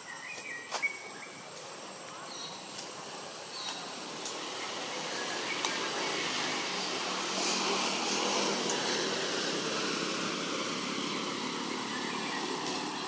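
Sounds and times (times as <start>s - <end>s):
distant engine rush: 2.1s - 13.0s.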